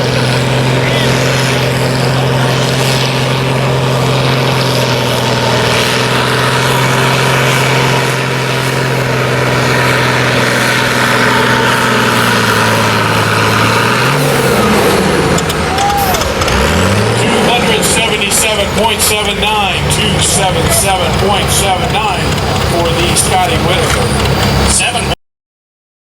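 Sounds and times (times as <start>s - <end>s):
diesel tractor engine running hard: 0.0s - 25.2s.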